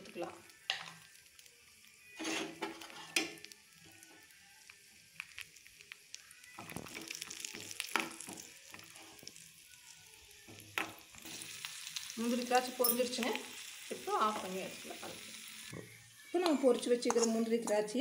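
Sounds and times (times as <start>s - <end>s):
nuts sizzling in hot fat: 0.0s - 18.0s.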